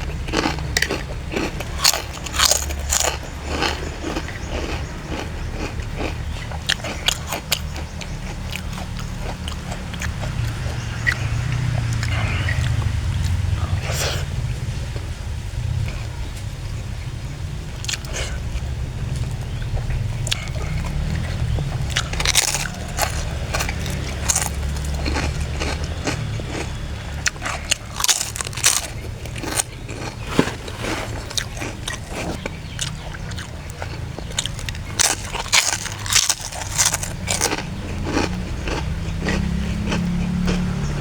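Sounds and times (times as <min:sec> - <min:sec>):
crunching and chewing crackers: 0:00.0 - 0:14.3, 0:17.6 - 0:41.0
steady low hum: 0:00.0 - 0:41.0.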